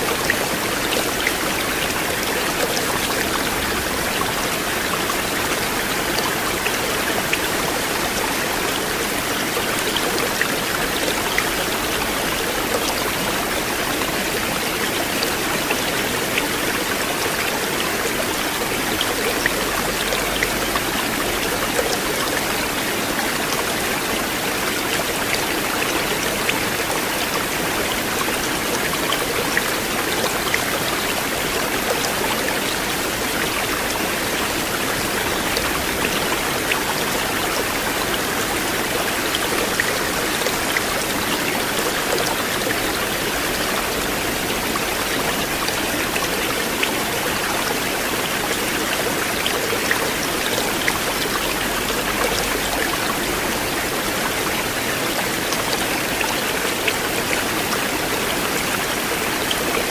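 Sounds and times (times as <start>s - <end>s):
river water rushing: 0.0s - 59.9s
water splashes and drips: 0.0s - 59.9s.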